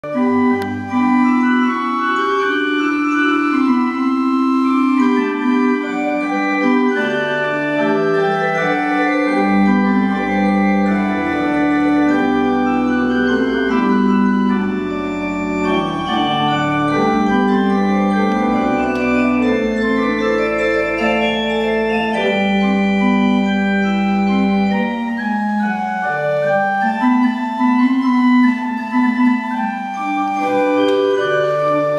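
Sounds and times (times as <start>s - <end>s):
church organ playing held chords: 0.0s - 31.9s
low organ bass notes: 0.0s - 31.9s.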